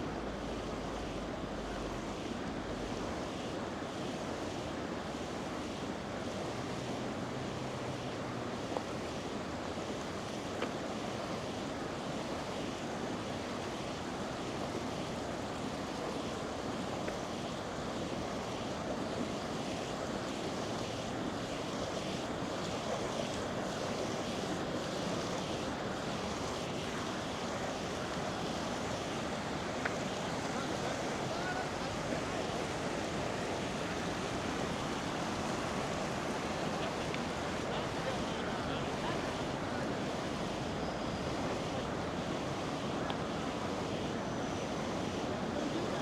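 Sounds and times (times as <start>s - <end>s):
river water rushing: 0.0s - 46.0s.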